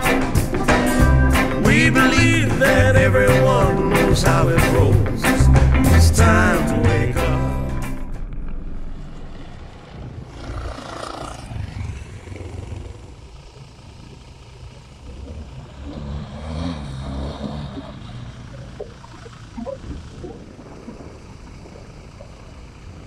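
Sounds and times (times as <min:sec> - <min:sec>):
distant motorcycle engine: 0:00.0 - 0:23.0.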